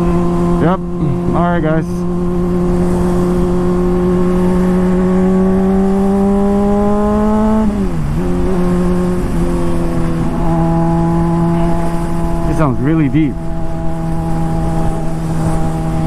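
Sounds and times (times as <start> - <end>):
sport bike engine revving: 0.0 - 16.0.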